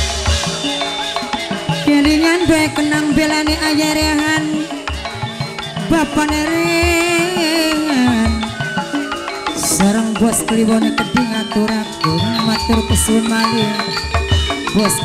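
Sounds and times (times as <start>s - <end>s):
drum strokes: 0.0s - 15.0s
gamelan music: 0.0s - 15.0s
long wavering held melody: 0.0s - 15.0s.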